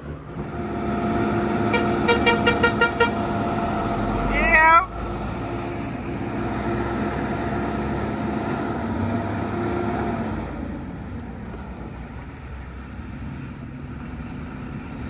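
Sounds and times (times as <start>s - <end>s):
heavy truck engine whine: 0.0s - 15.0s.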